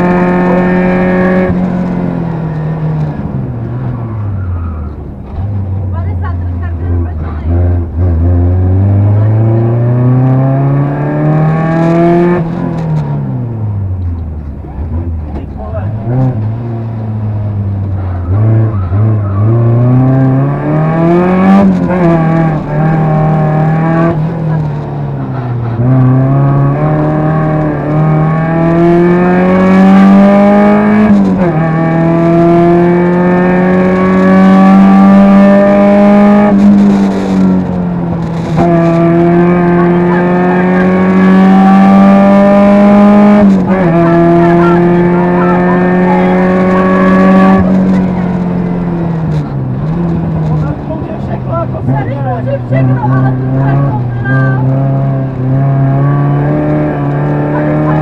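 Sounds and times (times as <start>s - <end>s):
rally car engine accelerating: 0.0s - 58.0s.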